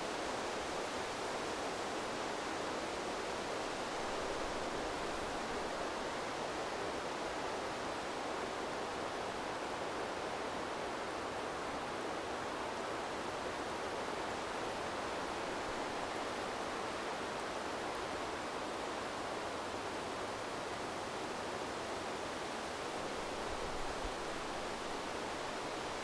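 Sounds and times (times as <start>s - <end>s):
river water flowing: 0.1s - 26.0s.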